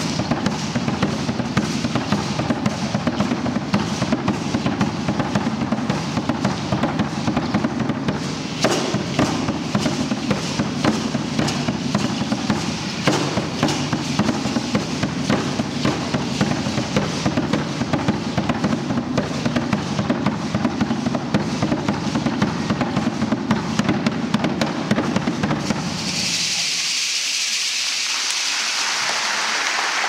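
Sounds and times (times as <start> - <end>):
fast driving drum beat: 0.0 - 26.1.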